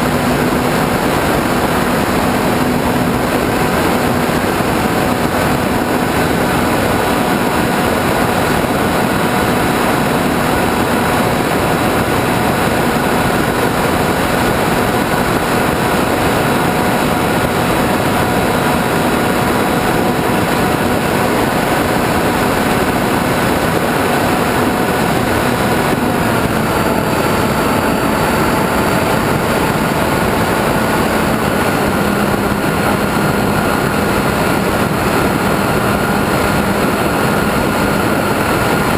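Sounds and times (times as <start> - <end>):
model airplane motor and propeller: 0.0 - 38.9
rushing wind: 0.0 - 38.9.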